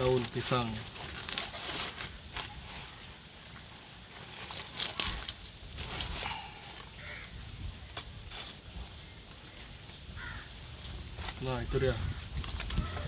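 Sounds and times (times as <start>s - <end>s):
leaves crinkling and crackling: 0.0s - 13.0s.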